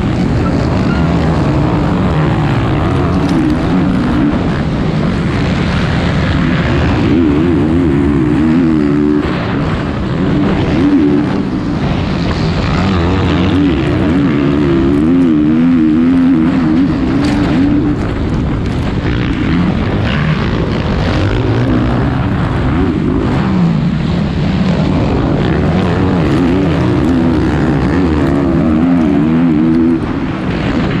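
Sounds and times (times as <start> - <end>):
motocross bike engine revving: 0.0 - 31.0
wind noise: 0.0 - 31.0.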